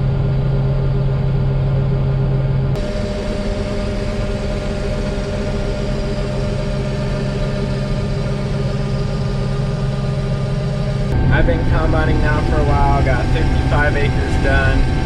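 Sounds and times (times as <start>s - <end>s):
combine engine droning: 0.0s - 15.0s
constant engine tones: 0.0s - 15.0s.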